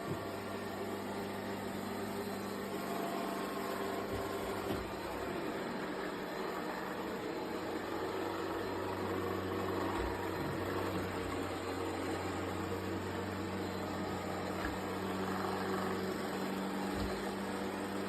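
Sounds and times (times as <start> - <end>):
robot vacuum motor humming: 0.1 - 18.0.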